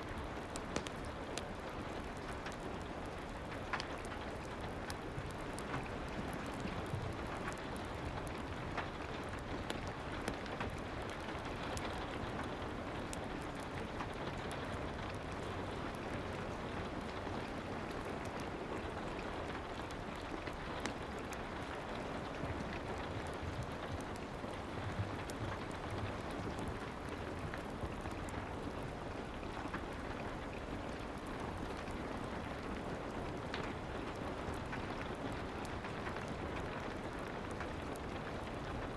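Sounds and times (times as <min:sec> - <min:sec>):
faint clicks and crackles: 0:00.0 - 0:38.9
soft steady rain: 0:00.0 - 0:38.9.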